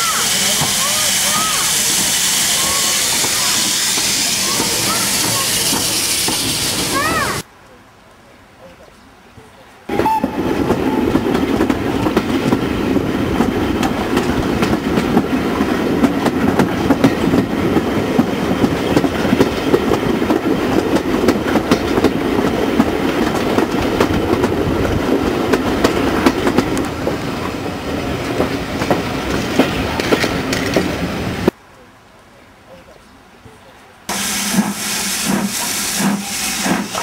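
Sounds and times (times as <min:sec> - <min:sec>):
train wheels clicking over rail joints: 0:00.0 - 0:07.4, 0:10.0 - 0:31.5, 0:34.1 - 0:37.0.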